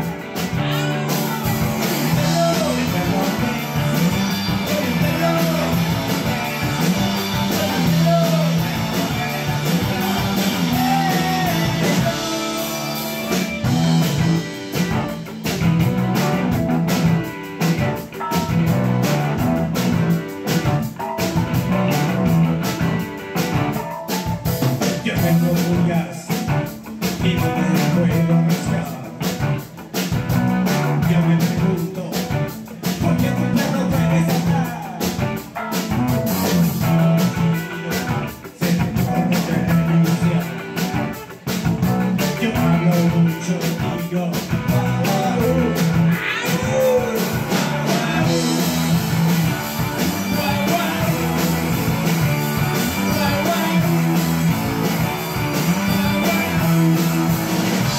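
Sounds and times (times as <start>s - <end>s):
drums beating: 0.0s - 57.9s
rock band playing: 0.0s - 57.9s
man singing: 0.2s - 15.0s, 24.7s - 29.6s, 30.6s - 57.9s.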